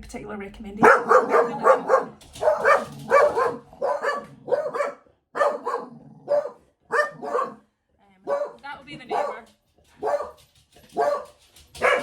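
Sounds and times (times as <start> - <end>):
dogs barking: 0.8 - 12.0.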